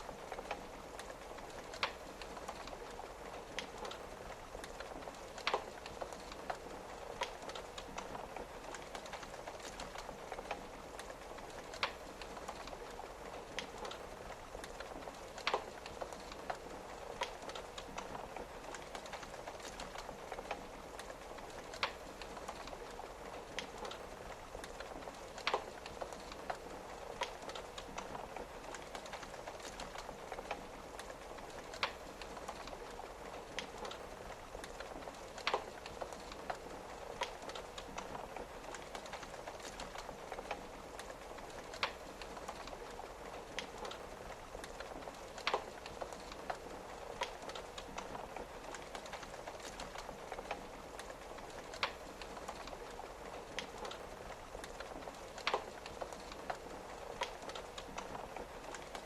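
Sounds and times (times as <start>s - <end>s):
rain on a window: 0.0s - 59.0s
wood fire crackling: 0.0s - 59.0s.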